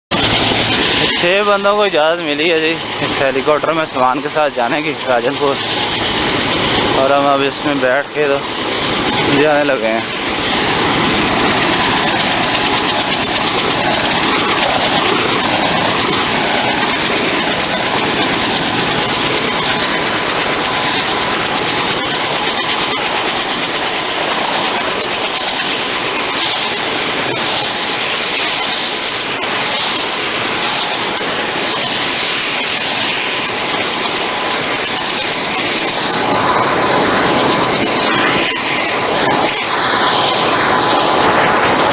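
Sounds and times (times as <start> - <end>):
helicopter engine and rotor: 0.1 - 41.9
thin steady whine: 0.1 - 41.9.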